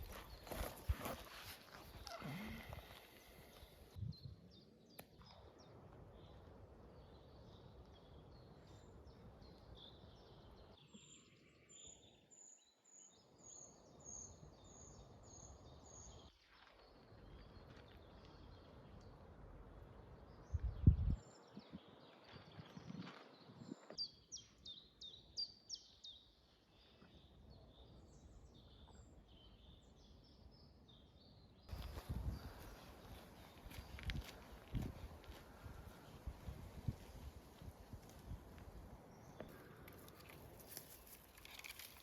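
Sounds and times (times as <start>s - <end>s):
birds chirping: 0.0s - 19.3s, 20.0s - 37.4s, 38.2s - 42.0s.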